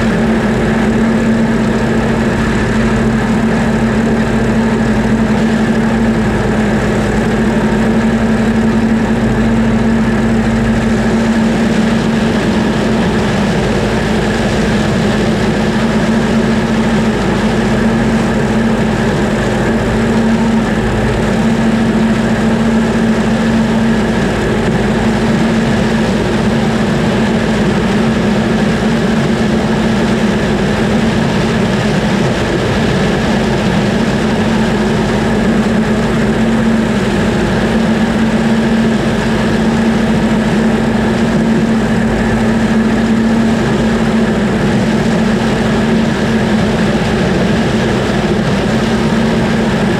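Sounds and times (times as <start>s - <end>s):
heavy machinery engine droning: 0.0s - 49.9s.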